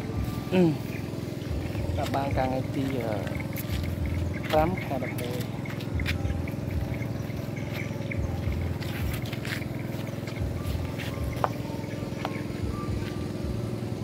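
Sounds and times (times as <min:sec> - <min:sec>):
motor running: 0:00.0 - 0:14.0.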